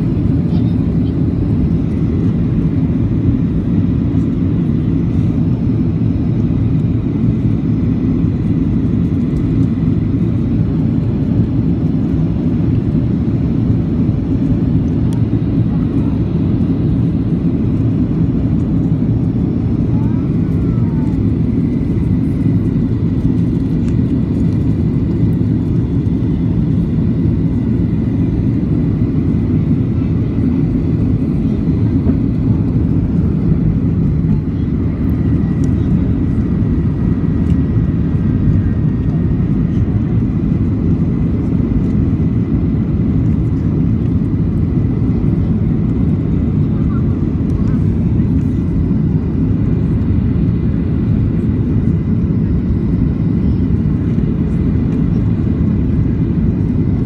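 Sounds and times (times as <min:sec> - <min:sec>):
jet engines in aircraft cabin: 0:00.0 - 0:57.0.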